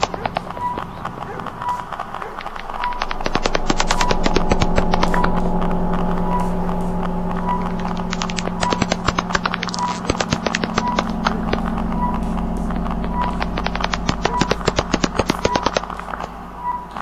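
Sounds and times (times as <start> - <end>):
irregular crackling clicks: 0.0 - 17.0
steady low hum: 0.0 - 17.0
short beeps: 2.8 - 17.0.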